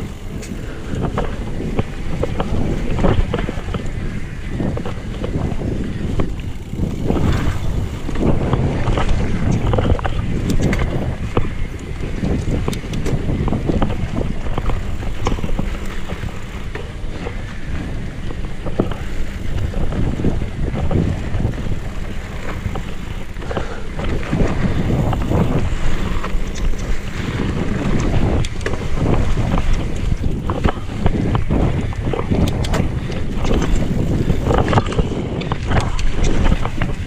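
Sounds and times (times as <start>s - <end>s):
bike clicks and rattles: 0.0s - 37.0s
bike tyres rolling on gravel: 0.0s - 37.0s
wind buffeting microphone: 0.0s - 37.0s.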